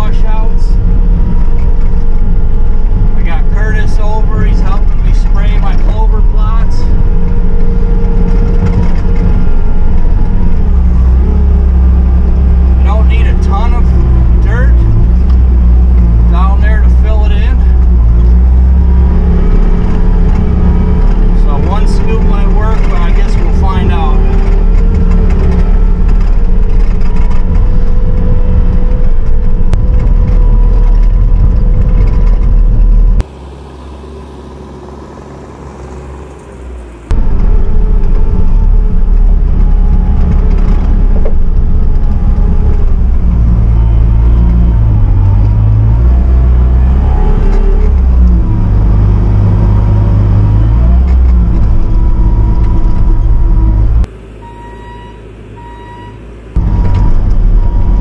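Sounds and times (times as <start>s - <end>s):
loader diesel engine working: 0.0s - 58.0s.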